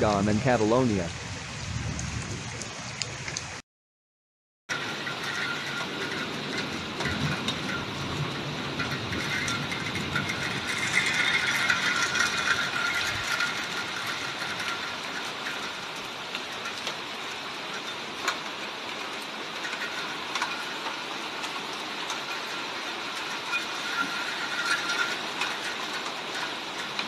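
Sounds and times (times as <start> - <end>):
torrential rain pouring: 0.0 - 3.6, 4.7 - 27.0.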